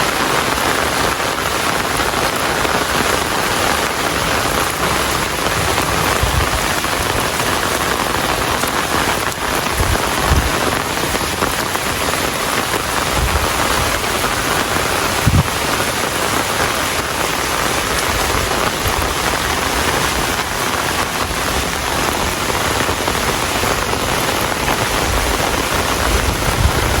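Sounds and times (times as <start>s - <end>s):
rain pattering on surfaces: 0.0s - 27.0s.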